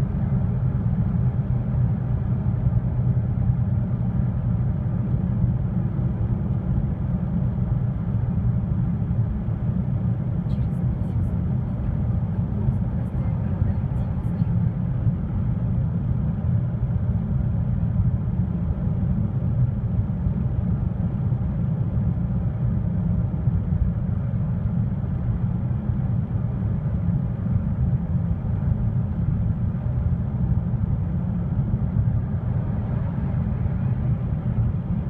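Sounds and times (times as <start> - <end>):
car interior road and engine rumble: 0.0 - 35.0.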